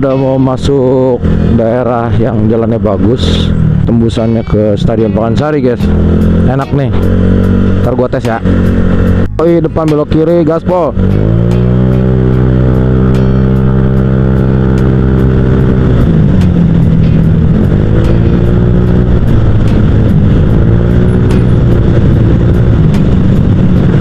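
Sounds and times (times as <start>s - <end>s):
scooter engine revving: 0.0s - 24.0s.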